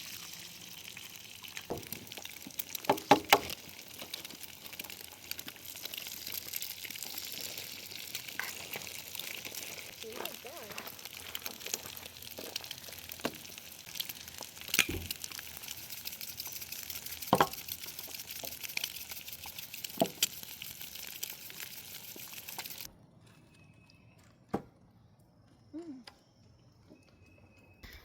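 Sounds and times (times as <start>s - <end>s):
food sizzling in a pan: 0.0s - 22.9s.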